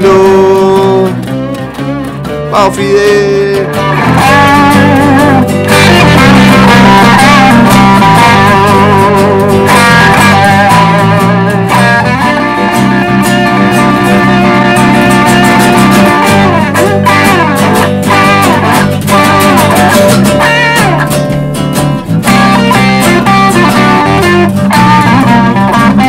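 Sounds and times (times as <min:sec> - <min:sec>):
blues-rock band playing: 0:00.0 - 0:26.0
lead guitar solo: 0:00.0 - 0:26.0.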